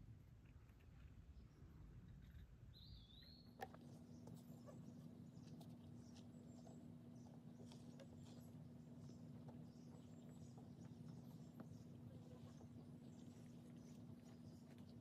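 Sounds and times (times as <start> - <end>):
faint forest ambience: 0.0 - 15.0.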